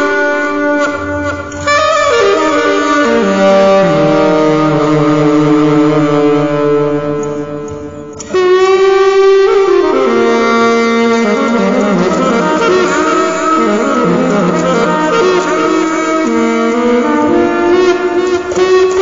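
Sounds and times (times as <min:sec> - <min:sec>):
saxophone melody: 0:00.0 - 0:19.0.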